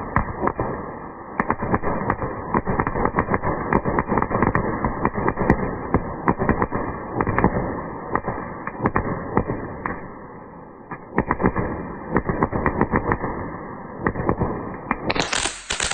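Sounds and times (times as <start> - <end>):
firework cracks and pops: 0.0 - 10.2, 10.8 - 15.9.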